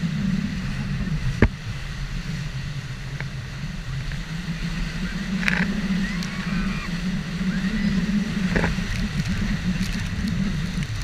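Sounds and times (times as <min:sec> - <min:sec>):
water and wind rushing: 0:00.0 - 0:11.0.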